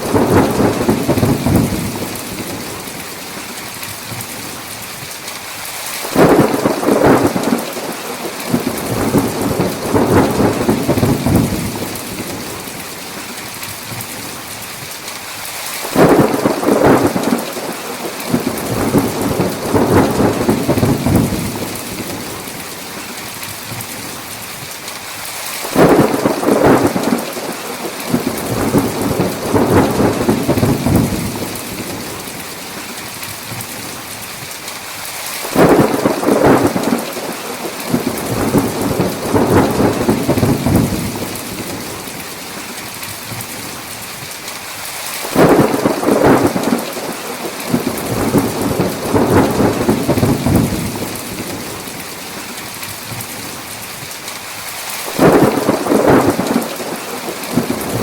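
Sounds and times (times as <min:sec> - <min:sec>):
thunder cracking and rumbling: 0:00.0 - 0:03.2, 0:06.0 - 0:14.4, 0:15.8 - 0:23.1, 0:25.6 - 0:34.0, 0:35.4 - 0:43.7, 0:45.2 - 0:53.6, 0:55.0 - 0:58.0
heavy rain: 0:00.0 - 0:58.0.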